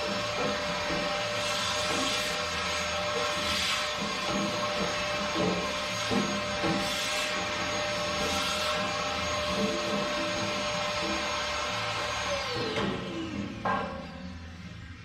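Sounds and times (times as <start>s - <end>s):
vacuum cleaner whining: 0.0s - 15.0s.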